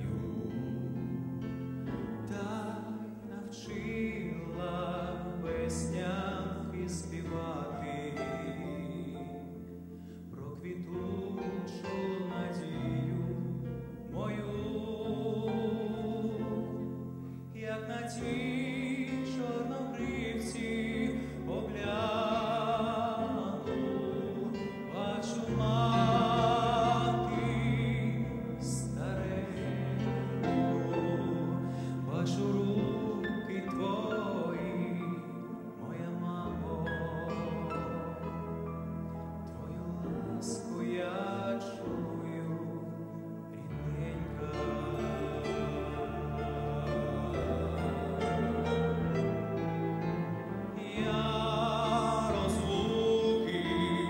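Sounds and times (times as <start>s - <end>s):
man singing into a microphone: 0.0s - 1.2s, 2.2s - 9.6s, 10.3s - 38.2s, 39.5s - 49.0s, 50.7s - 54.0s
instrumental accompaniment: 0.0s - 54.0s.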